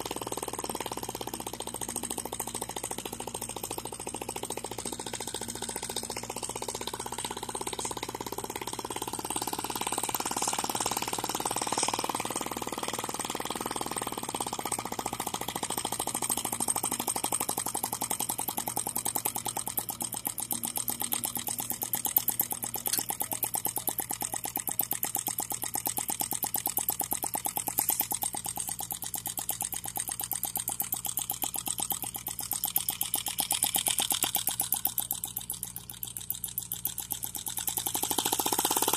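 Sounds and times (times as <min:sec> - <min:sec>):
model engine firing pops: 0:00.0 - 0:38.9.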